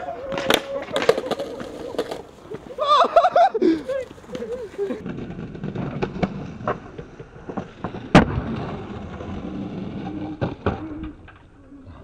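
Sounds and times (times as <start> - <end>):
skateboard clacks: 0.0 - 11.8
skateboard wheels on concrete: 0.0 - 12.0.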